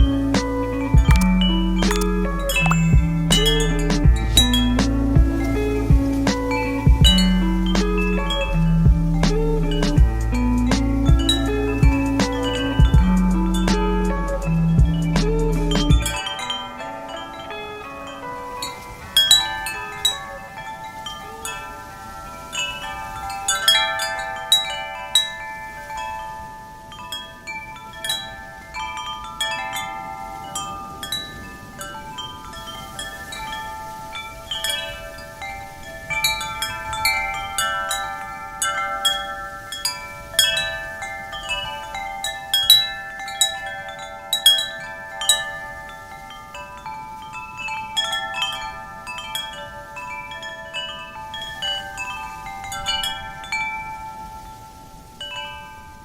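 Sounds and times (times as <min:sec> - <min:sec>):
faint wind: 0:00.0 - 0:56.0
wind chimes ringing: 0:00.0 - 0:56.0.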